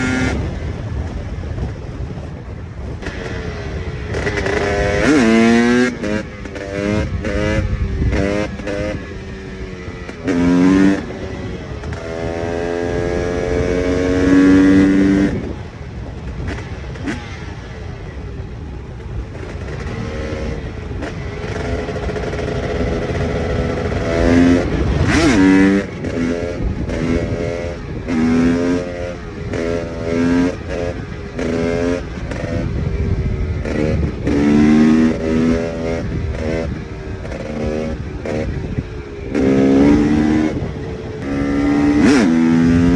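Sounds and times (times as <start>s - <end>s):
motorcycle engine revving: 0.0s - 42.9s
wind and tyre noise: 0.0s - 42.9s.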